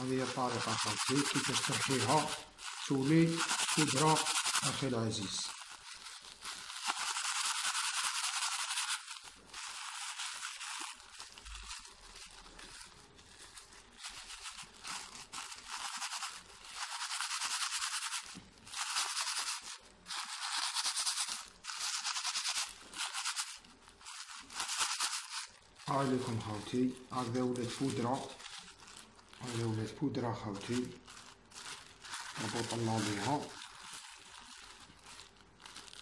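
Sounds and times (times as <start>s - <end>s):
fish flakes grinding: 0.0s - 36.0s
plastic bag crinkling: 0.0s - 36.0s.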